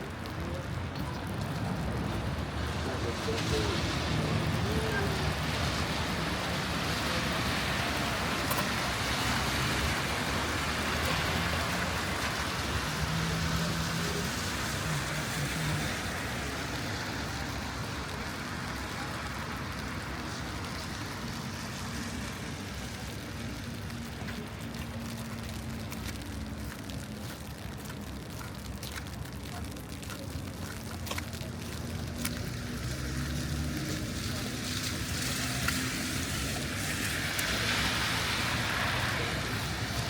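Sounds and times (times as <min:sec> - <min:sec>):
rain: 0:00.0 - 0:40.0
traffic on wet road: 0:00.0 - 0:40.0.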